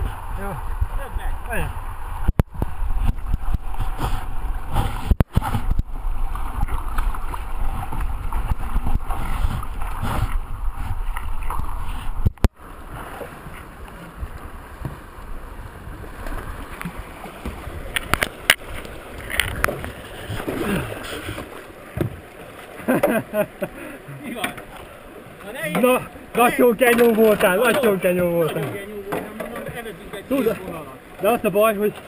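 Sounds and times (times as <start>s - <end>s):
river water rushing and splashing: 0.0s - 32.0s.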